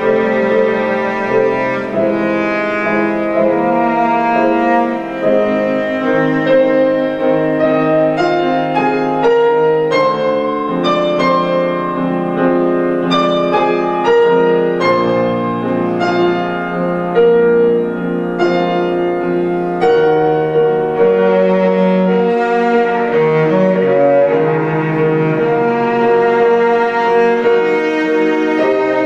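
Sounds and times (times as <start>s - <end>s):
bowed cello notes: 0.0s - 29.0s
piano notes: 0.0s - 29.0s.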